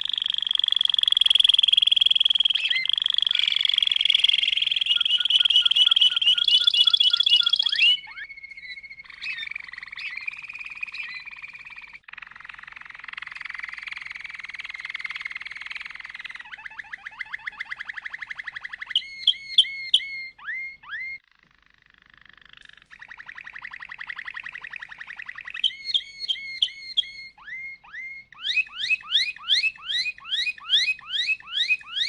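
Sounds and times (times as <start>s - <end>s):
canary singing: 0.0s - 32.0s.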